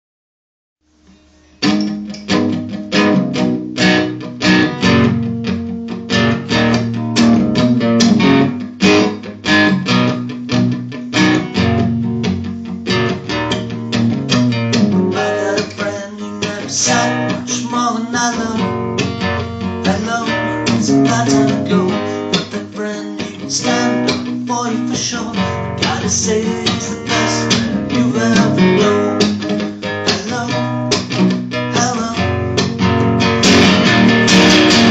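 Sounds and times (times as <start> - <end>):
acoustic guitar strumming: 1.1 - 34.9.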